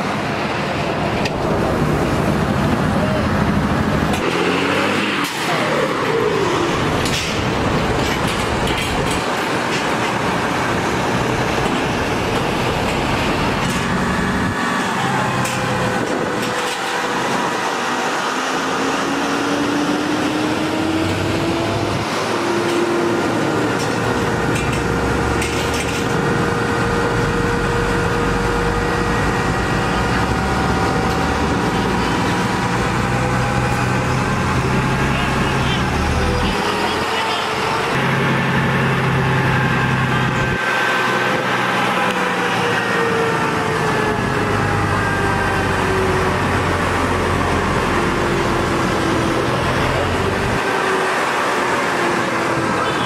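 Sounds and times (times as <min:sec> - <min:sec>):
heavy diesel engines running: 0:00.0 - 0:53.0.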